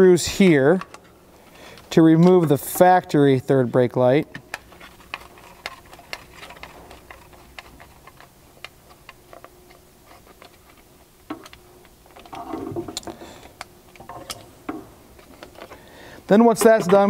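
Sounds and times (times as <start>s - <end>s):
scraping and rustling handling noise: 0.3s - 17.0s.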